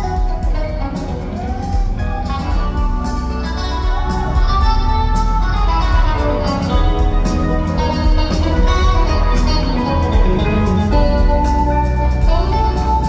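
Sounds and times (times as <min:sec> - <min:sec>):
bass guitar: 0:00.0 - 0:13.0
drums: 0:00.0 - 0:13.0
electric guitars: 0:00.0 - 0:13.0
keyboards: 0:00.0 - 0:13.0.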